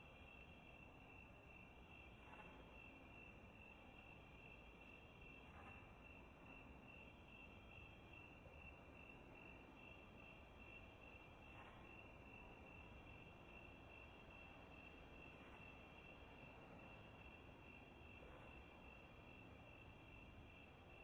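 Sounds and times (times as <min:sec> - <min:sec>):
faint crickets chirping: 0:00.0 - 0:21.0.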